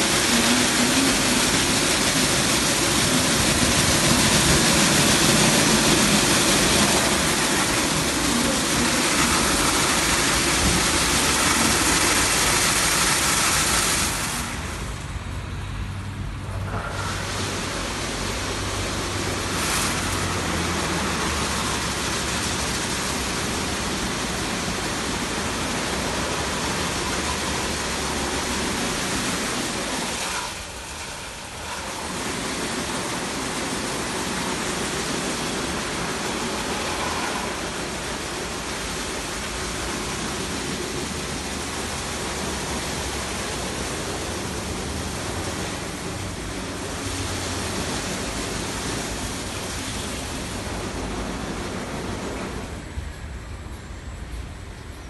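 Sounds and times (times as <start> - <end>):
car wash water spray: 0.0 - 53.0.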